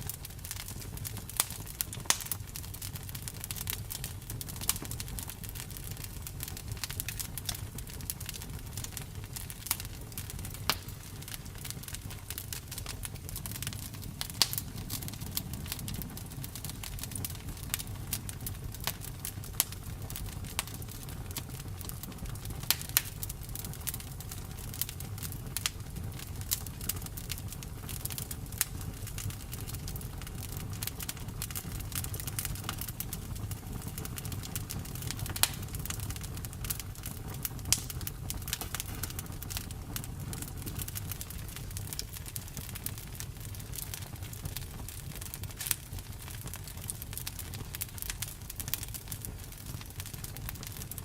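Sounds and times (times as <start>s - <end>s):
burning wood crackling and popping: 0.0s - 51.0s
campfire flames rumbling: 0.0s - 51.0s.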